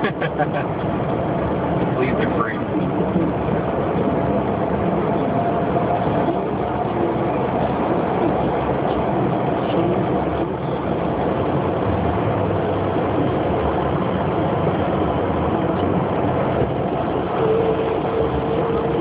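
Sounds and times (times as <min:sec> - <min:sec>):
traffic on city road: 0:00.0 - 0:19.0.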